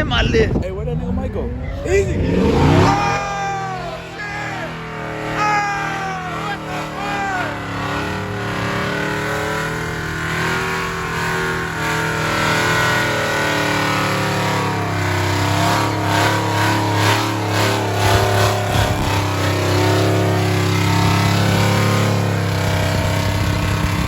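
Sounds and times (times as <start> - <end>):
truck engines revving: 0.0 - 24.0.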